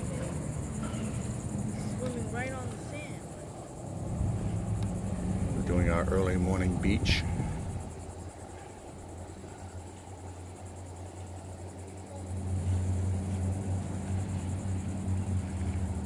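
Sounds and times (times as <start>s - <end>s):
low hum with rumble: 0.0s - 16.0s.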